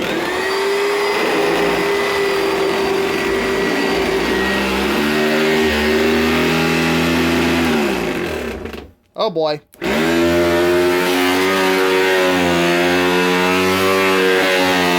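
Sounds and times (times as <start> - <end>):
vacuum cleaner motor whining: 0.0 - 8.9, 9.8 - 14.9.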